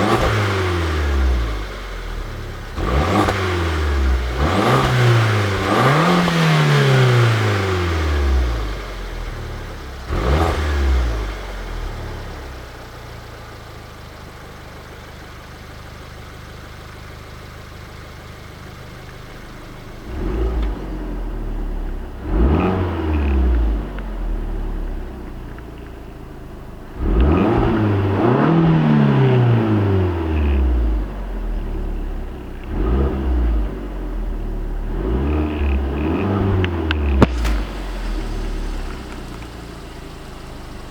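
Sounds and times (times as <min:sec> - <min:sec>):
car engine revving: 0:00.0 - 0:12.9, 0:19.1 - 0:40.9.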